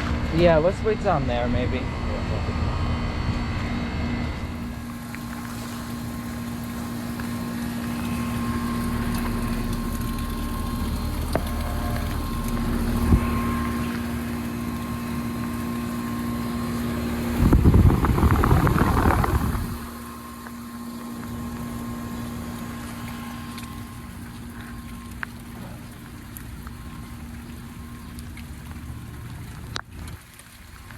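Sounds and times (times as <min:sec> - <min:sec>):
heat pump humming: 0:00.0 - 0:30.9.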